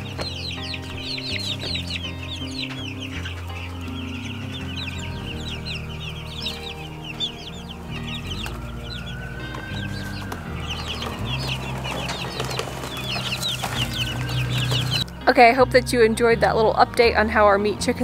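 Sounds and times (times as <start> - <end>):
chicks peeping: 0.0 - 15.1.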